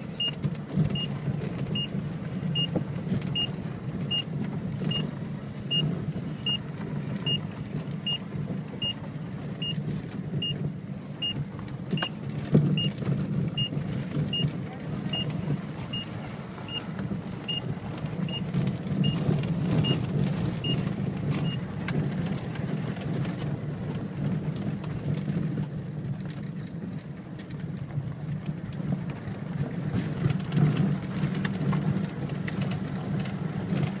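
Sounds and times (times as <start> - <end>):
car engine and tyres rumbling: 0.0 - 34.0
gravel crackling under wheels: 0.0 - 34.0.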